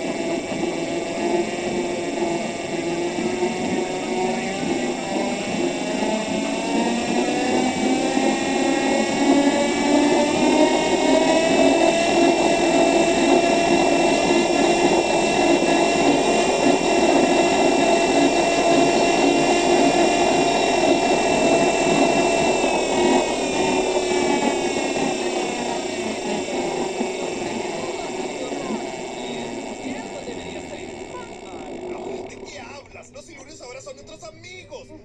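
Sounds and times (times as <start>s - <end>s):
electric motor whine: 0.0s - 34.2s.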